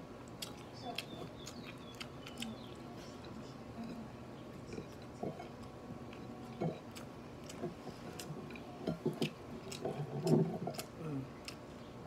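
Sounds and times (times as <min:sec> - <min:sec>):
person chewing with mouth closed: 0:00.2 - 0:11.8.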